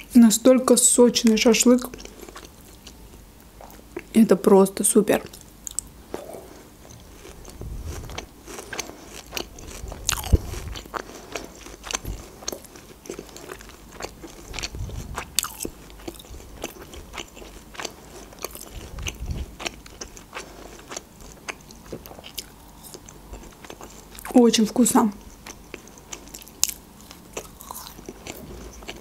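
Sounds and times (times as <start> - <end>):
chewing and biting food: 1.9 - 4.1, 5.3 - 24.3, 25.2 - 29.0.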